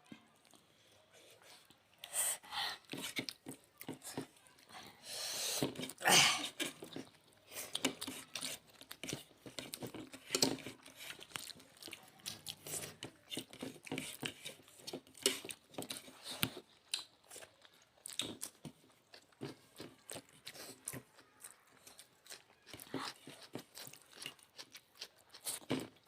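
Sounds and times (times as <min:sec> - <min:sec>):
person chewing food: 0:00.3 - 0:26.0.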